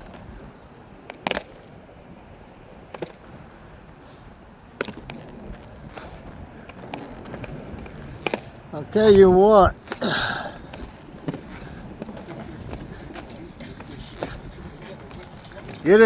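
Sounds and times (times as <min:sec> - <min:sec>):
roller skate wheels on pavement: 0:00.0 - 0:16.0.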